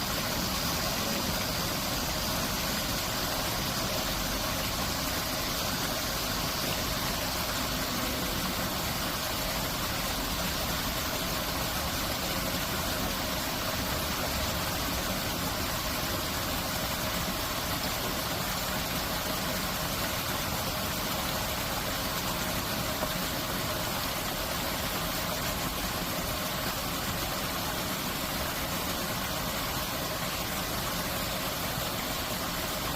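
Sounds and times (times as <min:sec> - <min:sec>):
water rushing through stone arches: 0:00.0 - 0:32.9.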